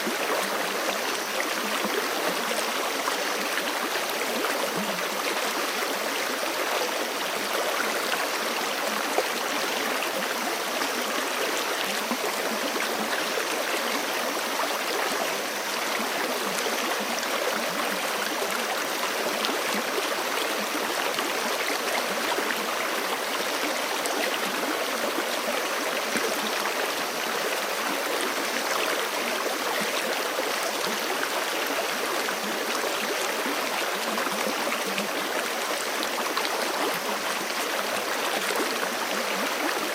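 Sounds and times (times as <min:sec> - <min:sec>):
creek running over rocks: 0:00.0 - 0:39.9.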